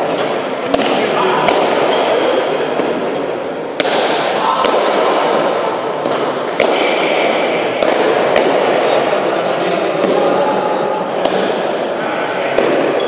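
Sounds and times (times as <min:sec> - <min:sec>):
ball striking walls echoing: 0:00.0 - 0:13.0.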